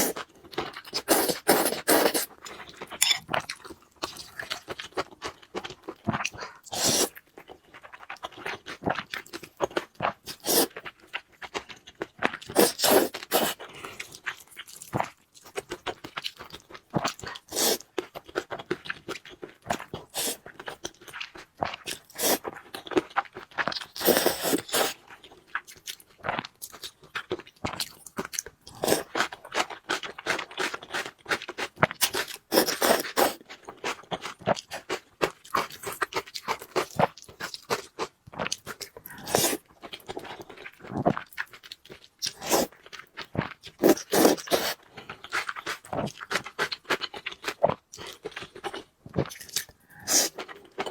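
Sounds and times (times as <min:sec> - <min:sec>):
person crunching and chewing food: 0:00.0 - 0:50.9.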